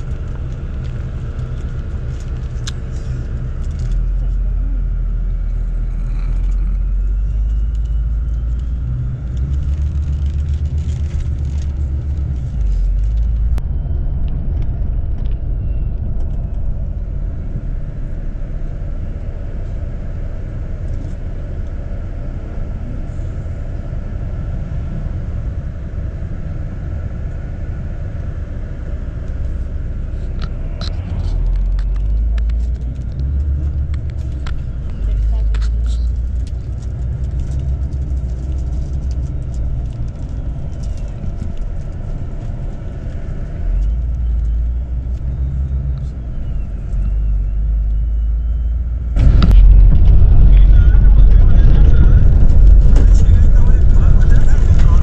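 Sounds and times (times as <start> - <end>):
coach engine and road rumble: 0.0 - 55.0.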